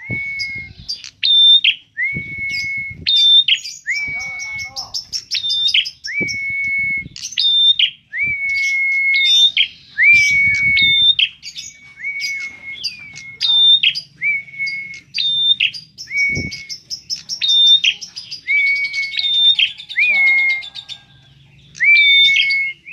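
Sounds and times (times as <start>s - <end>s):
bird singing shrill whistle: 0.0s - 20.9s, 21.8s - 22.9s
bird high ticking notes: 0.0s - 22.9s.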